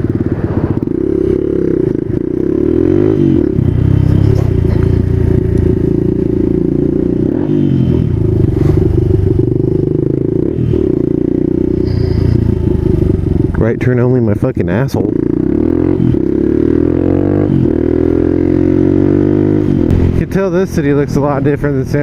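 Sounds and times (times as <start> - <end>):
small motorcycle engine revving: 0.0 - 13.5, 15.2 - 20.2.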